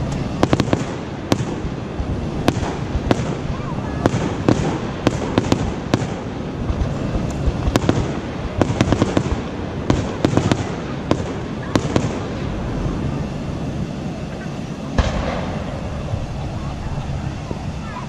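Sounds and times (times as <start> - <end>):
fireworks bangs and pops: 0.0 - 12.5, 14.4 - 16.4
steady background noise: 0.0 - 18.0.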